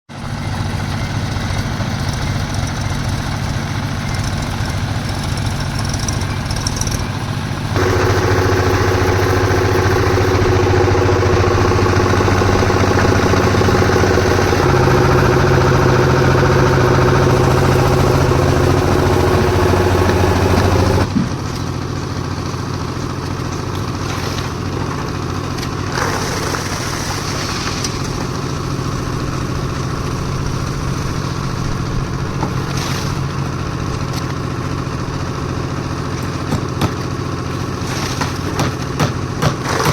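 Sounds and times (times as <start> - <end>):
concrete mixer engine running: 0.2 - 39.9.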